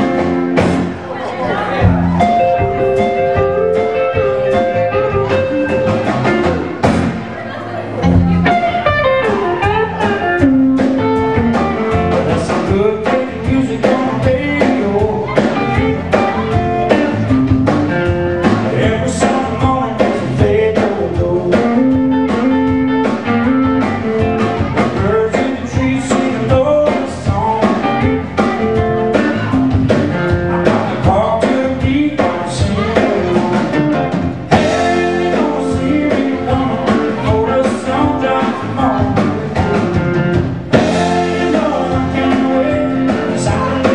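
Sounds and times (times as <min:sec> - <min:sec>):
blues band playing: 0:00.0 - 0:43.9.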